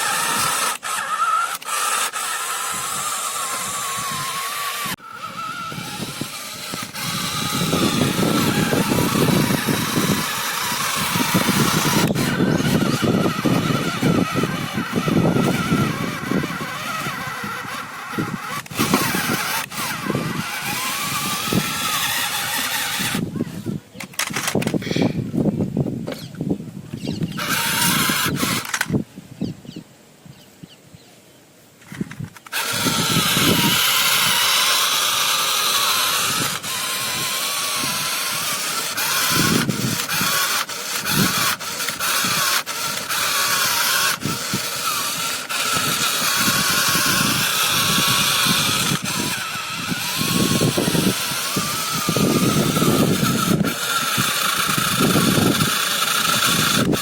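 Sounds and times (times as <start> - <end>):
small motor gear whine: 0.0 - 29.8, 31.7 - 57.0.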